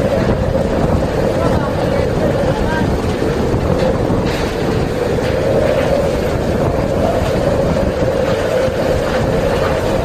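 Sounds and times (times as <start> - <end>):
driving rain: 0.0 - 10.0
howling wind: 0.0 - 10.0
wind buffeting microphone: 0.0 - 10.0.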